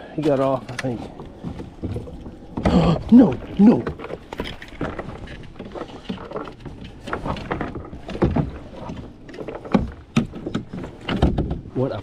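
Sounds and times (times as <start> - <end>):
water around hull: 0.0 - 12.0
knocks and rustles of handling gear: 0.2 - 12.0.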